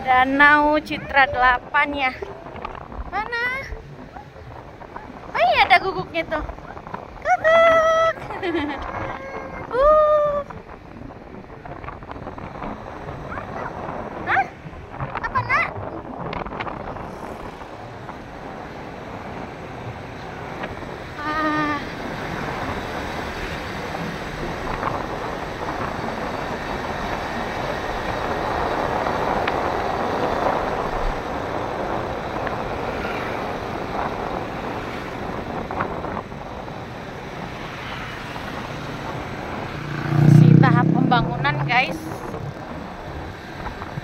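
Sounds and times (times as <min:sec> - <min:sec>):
motorcycle traffic rushing: 0:00.0 - 0:44.0.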